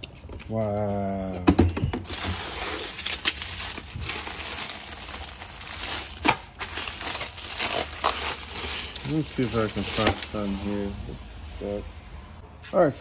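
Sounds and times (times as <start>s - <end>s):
rustling and crinkling materials: 0.0s - 10.5s.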